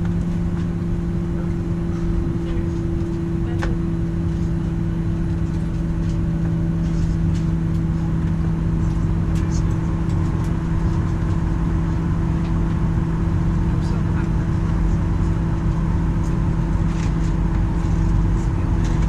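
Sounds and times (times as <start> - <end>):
cabin air-conditioning hum: 0.0 - 19.0.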